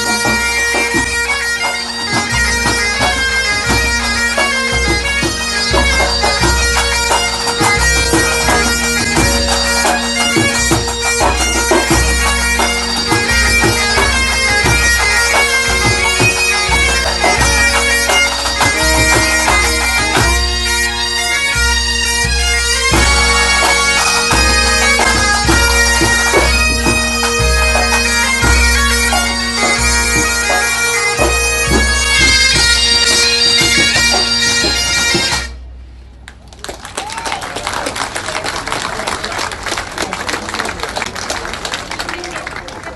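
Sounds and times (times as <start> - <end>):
bagpipes playing melody with drone: 0.0 - 35.7
drum beats: 0.0 - 36.3.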